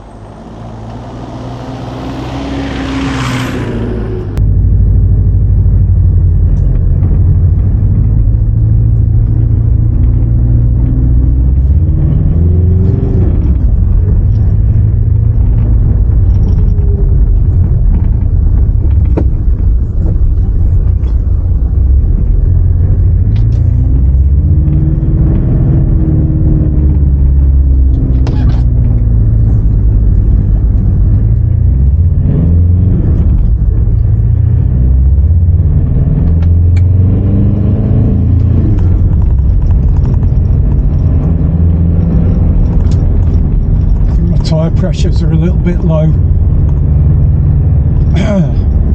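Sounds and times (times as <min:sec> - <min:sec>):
diesel engine revving while driving: 0:00.0 - 0:48.9.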